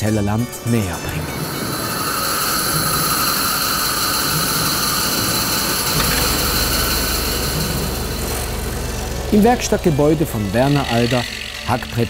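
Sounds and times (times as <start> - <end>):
band saw cutting wood: 0.6 - 12.0
deeper machine hum: 1.0 - 12.0.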